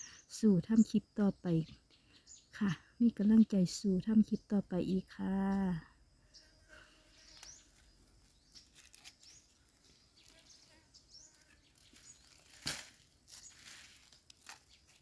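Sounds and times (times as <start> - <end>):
faint high bird chirps: 0.0 - 12.7.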